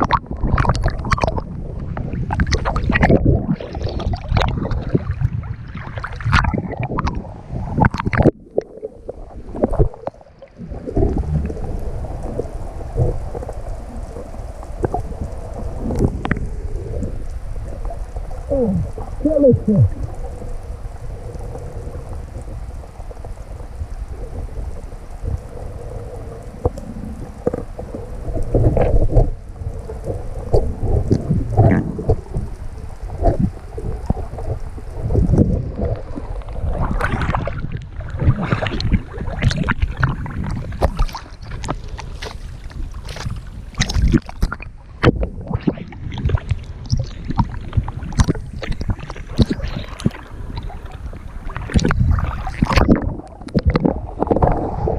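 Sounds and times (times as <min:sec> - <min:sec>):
water sloshing and splashing: 0:00.0 - 0:54.9
wind rumble on microphone: 0:00.0 - 0:54.9.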